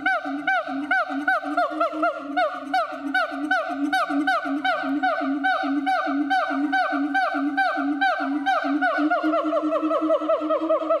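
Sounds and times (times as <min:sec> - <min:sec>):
ape hooting calls: 0:00.0 - 0:11.0.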